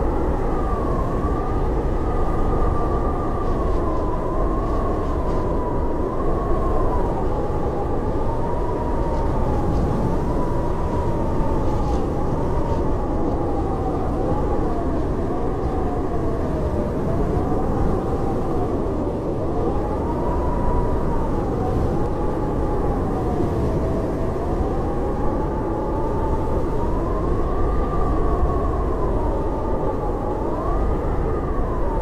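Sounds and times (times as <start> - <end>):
howling blizzard wind: 0.0 - 32.0.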